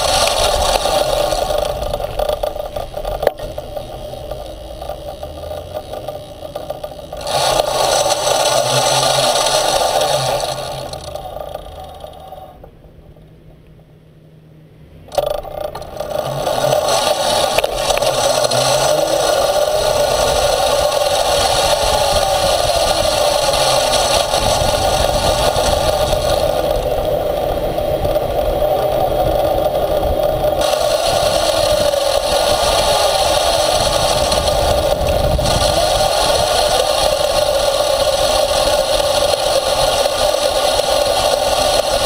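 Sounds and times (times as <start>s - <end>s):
electric motor and wheels on asphalt: 0.0s - 42.0s.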